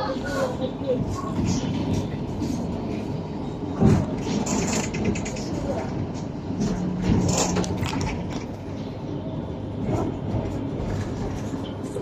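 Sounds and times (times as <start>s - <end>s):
train carriage rumbling: 0.0s - 12.0s.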